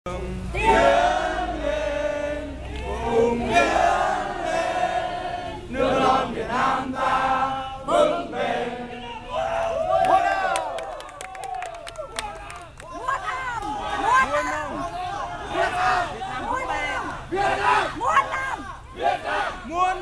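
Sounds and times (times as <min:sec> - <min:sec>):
crowd chanting in unison: 0:00.5 - 0:10.8, 0:13.0 - 0:20.0.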